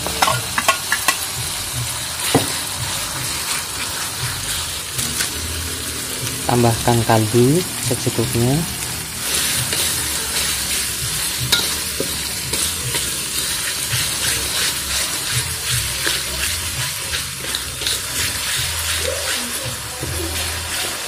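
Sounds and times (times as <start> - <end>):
metal spatula scraping wok: 0.0 - 1.3, 2.2 - 5.8, 7.7 - 21.0
paste sizzling in oil: 0.0 - 21.0.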